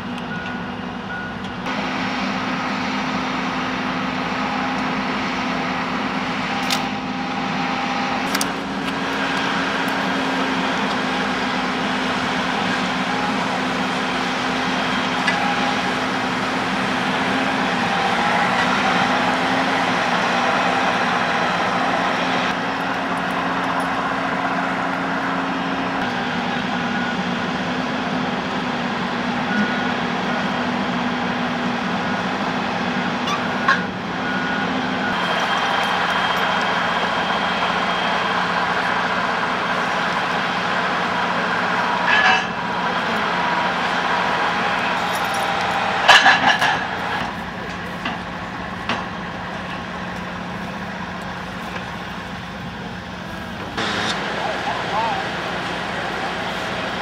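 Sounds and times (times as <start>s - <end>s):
heavy engines droning: 0.0s - 57.0s.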